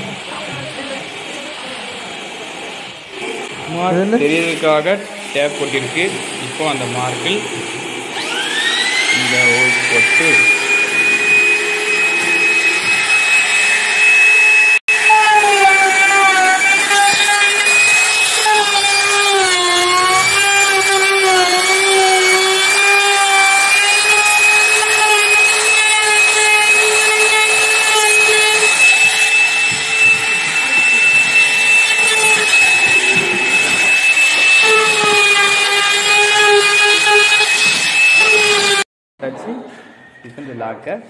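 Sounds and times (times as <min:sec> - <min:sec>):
electric router cutting wood: 0:03.1 - 0:38.9.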